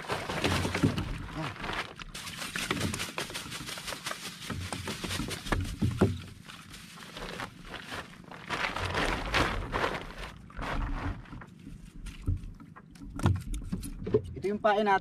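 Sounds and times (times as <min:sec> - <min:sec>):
plastic sack rustling and crinkling: 0:00.0 - 0:12.5.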